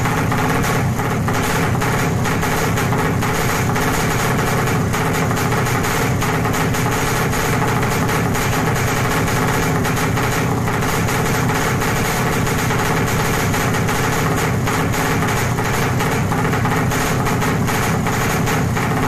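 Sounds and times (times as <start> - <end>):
two-stroke motorbike engine running: 0.0 - 19.0.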